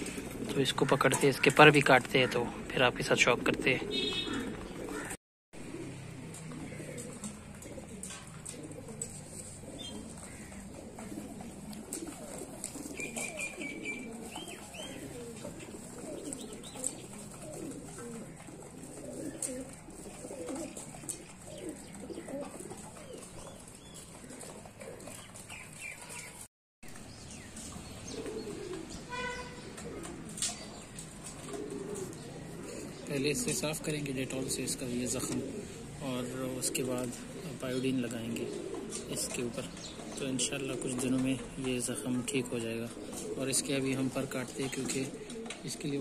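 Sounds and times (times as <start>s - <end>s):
pigeons cooing: 0.0s - 46.0s.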